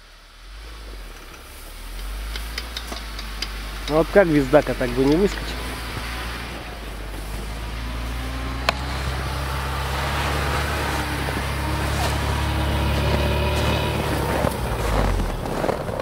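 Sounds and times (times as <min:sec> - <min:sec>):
car engine running under load: 0:00.0 - 0:16.0.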